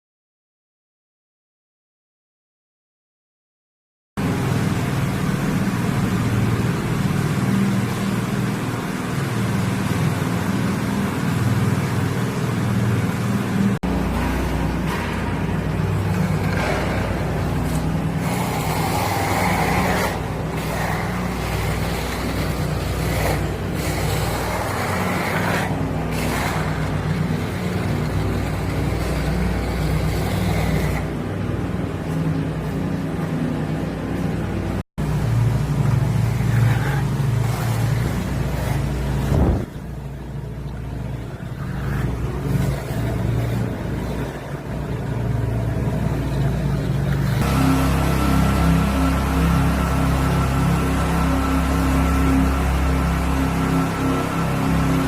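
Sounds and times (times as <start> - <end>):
heavy machinery engine humming: 4.2 - 55.0.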